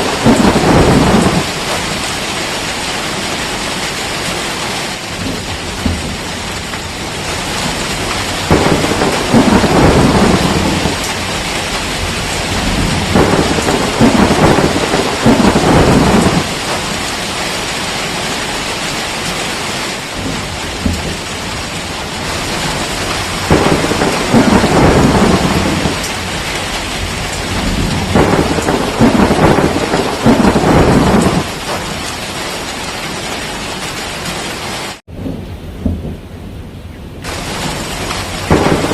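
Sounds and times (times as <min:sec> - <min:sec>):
rolling thunder: 0:00.0 - 0:02.9, 0:05.1 - 0:18.4, 0:20.0 - 0:32.4, 0:35.1 - 0:38.9
heavy rainfall: 0:00.0 - 0:38.9.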